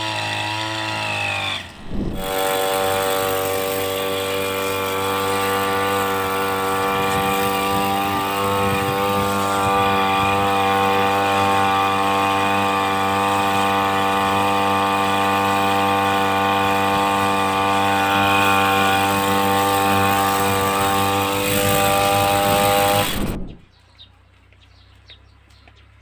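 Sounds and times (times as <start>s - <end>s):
sprayer engine running at high revs: 0.0s - 23.4s.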